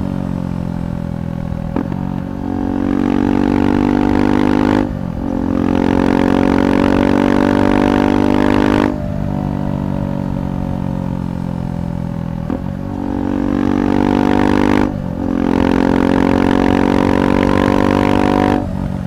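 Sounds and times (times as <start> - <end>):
motorcycle engine under way: 0.0 - 19.0.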